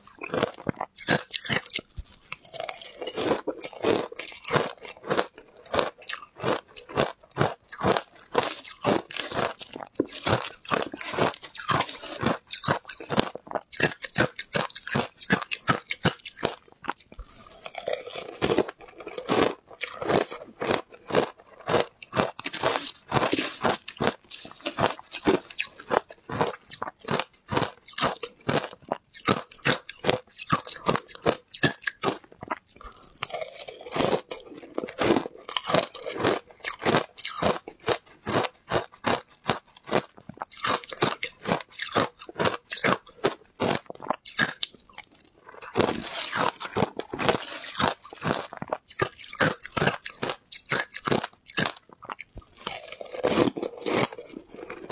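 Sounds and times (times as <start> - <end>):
shaved ice crunched between teeth: 0.0 - 54.9.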